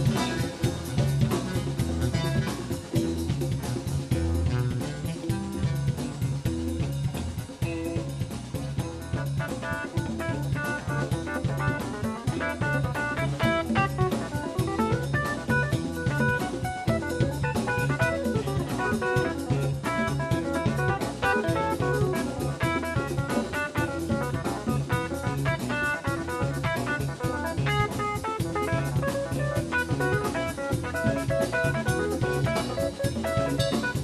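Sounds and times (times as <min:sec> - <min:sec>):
bass: 0:00.0 - 0:34.0
drum kit beat: 0:00.0 - 0:34.0
electric guitar: 0:00.0 - 0:34.0
keyboards: 0:00.0 - 0:34.0.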